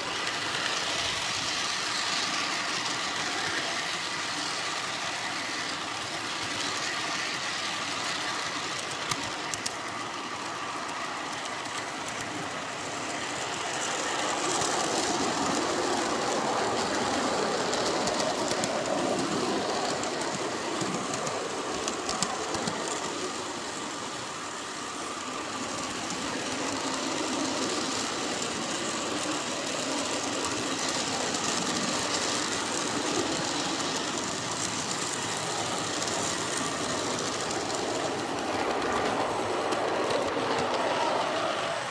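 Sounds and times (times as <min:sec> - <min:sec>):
model train wheels clattering on rails: 0:00.0 - 0:41.9.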